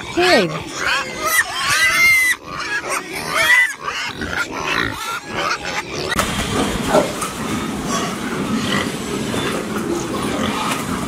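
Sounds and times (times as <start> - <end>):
low din of pigs: 0.0 - 11.0
pigs squealing: 0.0 - 11.0.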